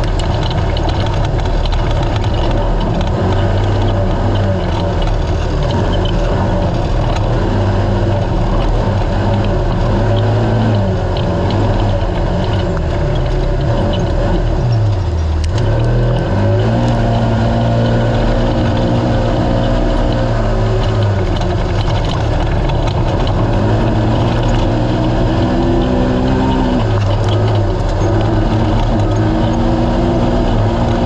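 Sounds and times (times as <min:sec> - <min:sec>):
race car engine at high revs: 0:00.0 - 0:31.0
scattered clicks: 0:00.0 - 0:31.0.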